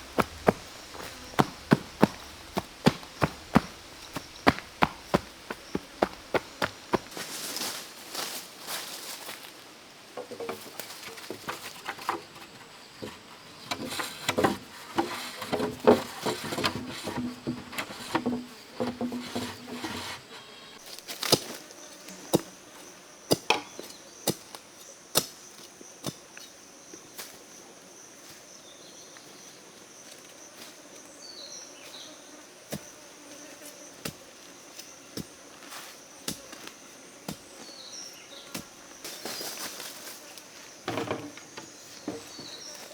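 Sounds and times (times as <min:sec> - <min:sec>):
insects buzzing: 0:00.0 - 0:10.1, 0:12.6 - 0:42.9.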